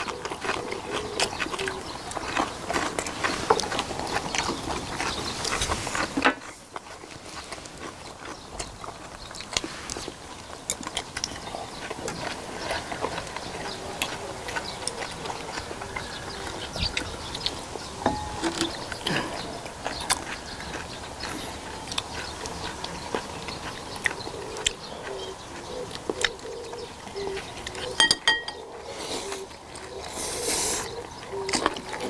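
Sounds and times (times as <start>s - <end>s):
people chewing and lip smacking: 0.0s - 32.0s.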